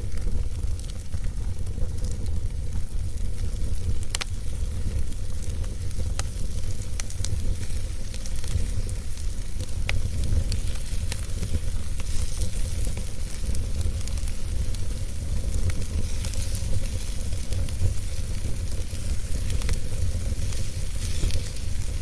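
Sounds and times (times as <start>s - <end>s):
fire rumbling and hissing: 0.0s - 22.0s
logs crackling and popping: 0.0s - 22.0s.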